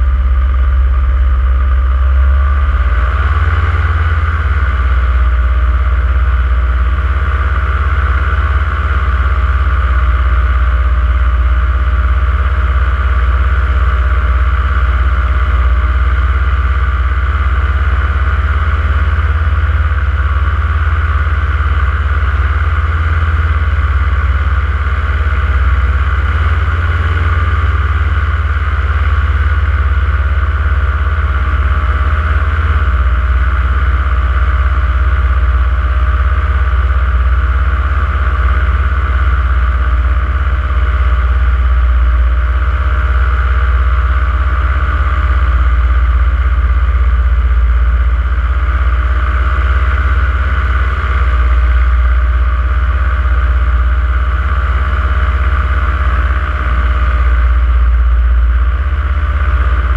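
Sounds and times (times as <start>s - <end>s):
paraglider engine drone: 0.0s - 59.9s.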